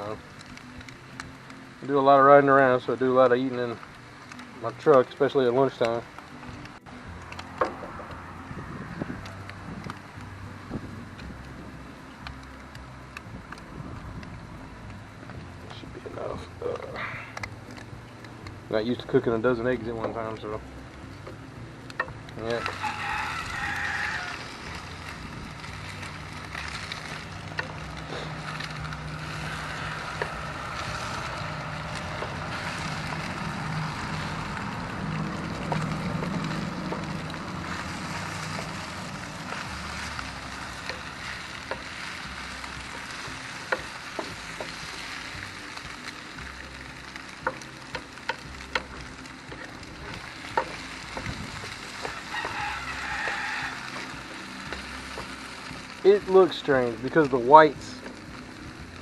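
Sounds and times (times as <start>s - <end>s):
egg sizzling on a grill: 0.0s - 59.0s.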